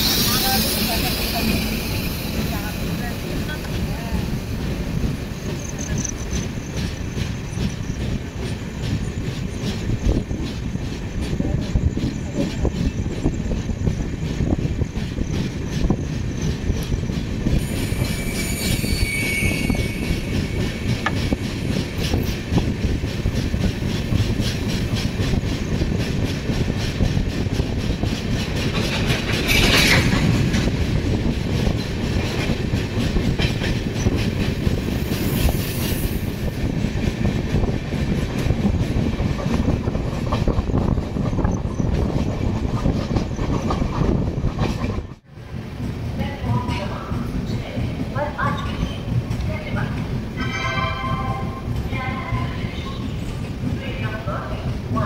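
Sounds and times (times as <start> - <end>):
train rumbling at speed: 0.0 - 55.0.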